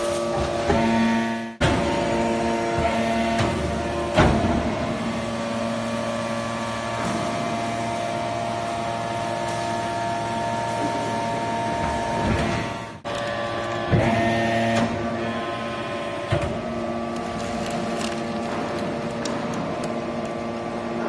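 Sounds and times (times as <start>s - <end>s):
hydraulic motor hum and whine: 0.0s - 21.0s.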